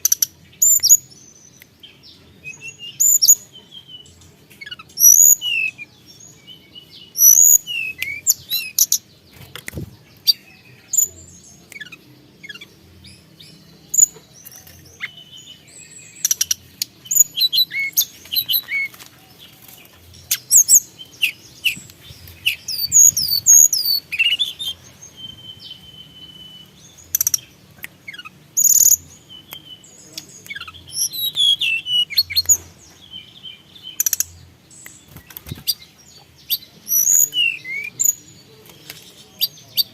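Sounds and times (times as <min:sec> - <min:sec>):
songbird whistles and chirps: 0:00.0 - 0:39.9.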